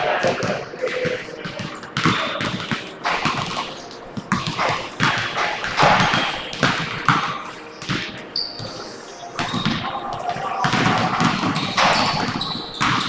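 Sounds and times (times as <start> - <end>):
basketballs bouncing on hardwood: 0.0 - 13.0.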